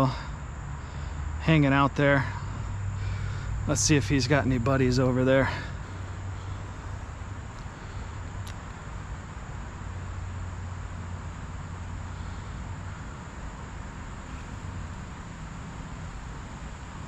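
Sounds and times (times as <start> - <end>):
even hiss: 0.0 - 17.0
high-pitched insect chorus: 0.0 - 17.0
low steady rumble: 0.0 - 17.0.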